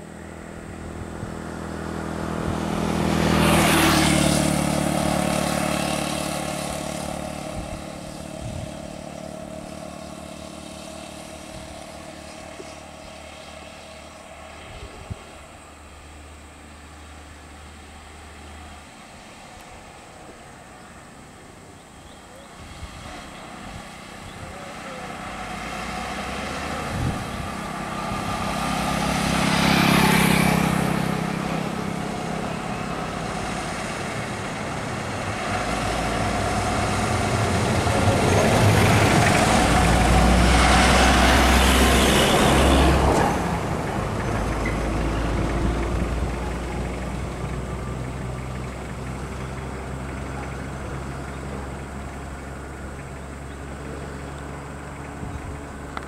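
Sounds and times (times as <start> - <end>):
motorcycle passing: 0.0 - 56.0
steady engine hum: 0.0 - 56.0
truck diesel engine: 0.0 - 56.0.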